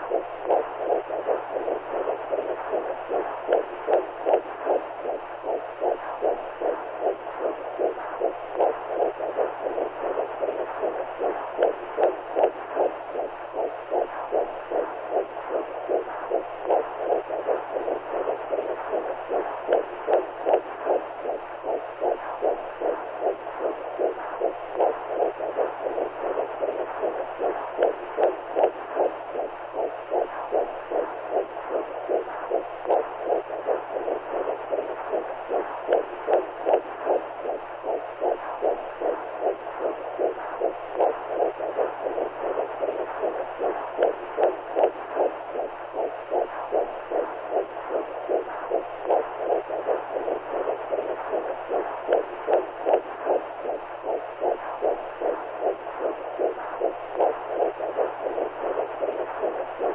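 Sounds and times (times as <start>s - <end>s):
low hum: 0.0s - 59.9s
whooshing heartbeat pulse: 0.0s - 59.9s.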